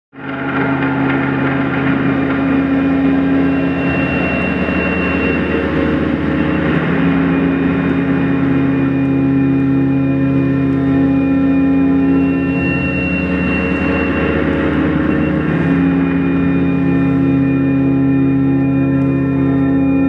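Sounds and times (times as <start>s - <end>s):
electronic drone chord: 0.2s - 20.0s.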